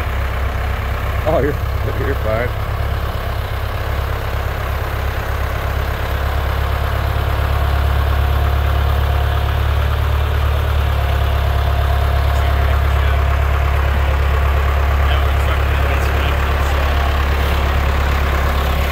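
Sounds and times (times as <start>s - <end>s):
heavy engine idling: 0.0s - 18.9s.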